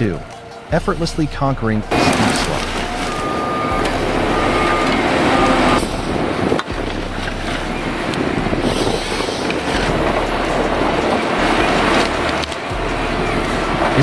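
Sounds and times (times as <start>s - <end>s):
forestry harvester running: 0.0s - 14.0s
thin high whine: 0.0s - 14.0s.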